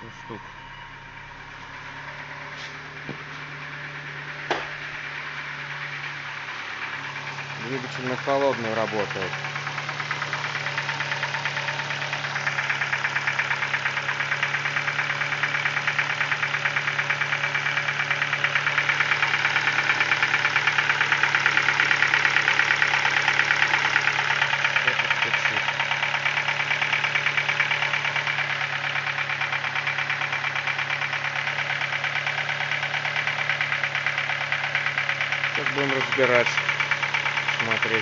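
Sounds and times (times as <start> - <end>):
car engine idling with knock: 0.0 - 38.0.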